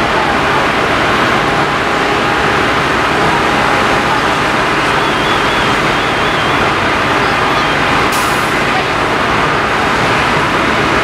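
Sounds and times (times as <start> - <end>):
fire engine pumping: 0.0 - 11.0.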